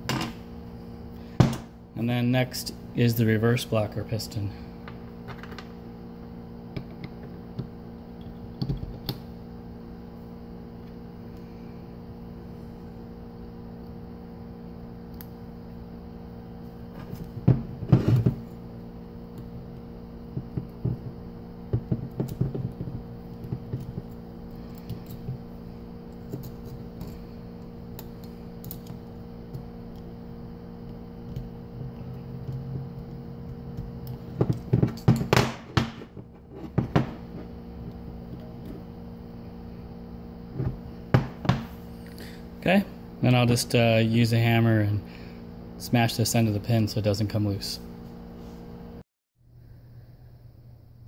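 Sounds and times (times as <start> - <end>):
steady hum: 0.0 - 51.0.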